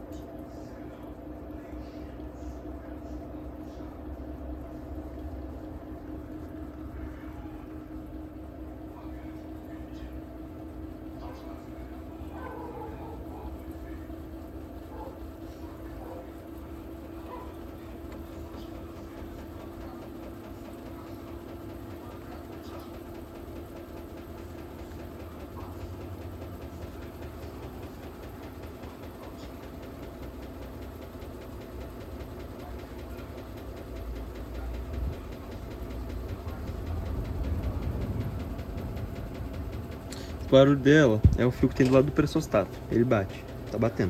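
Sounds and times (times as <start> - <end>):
washing machine humming: 0.0 - 44.0
knocking inside washing machine: 5.3 - 44.0.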